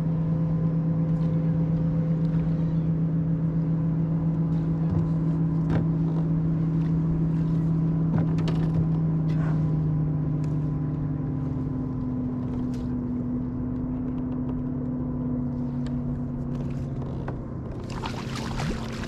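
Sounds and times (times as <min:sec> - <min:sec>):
motorboat engine droning: 0:00.0 - 0:19.0.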